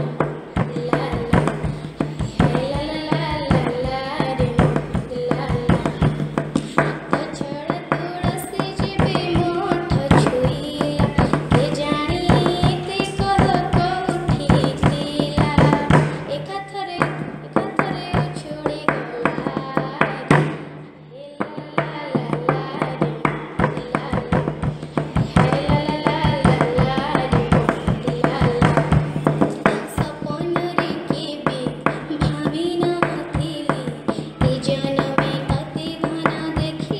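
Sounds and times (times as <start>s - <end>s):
dense drum percussion: 0.0s - 20.8s, 22.2s - 36.9s
girl singing: 0.0s - 36.9s.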